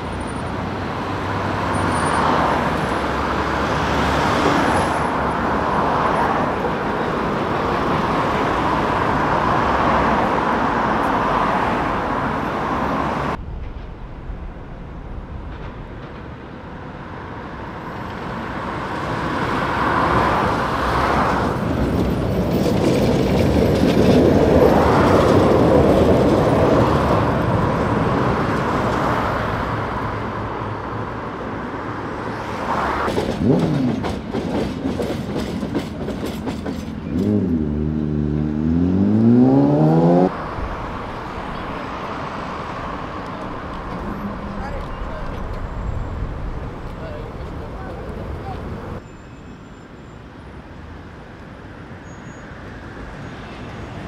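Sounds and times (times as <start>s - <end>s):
road traffic: 0.0s - 54.0s
tram running on street track: 0.0s - 54.0s.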